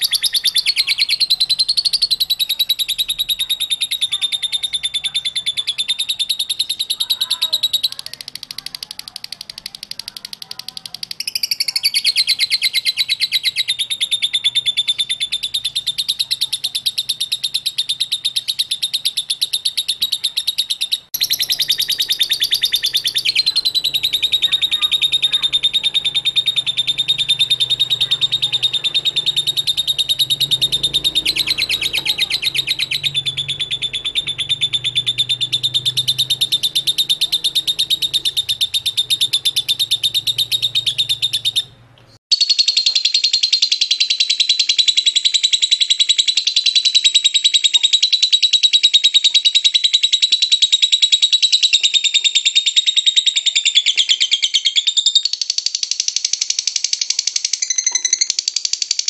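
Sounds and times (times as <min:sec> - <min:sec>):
lovebird chattering trill: 0:00.0 - 0:59.0.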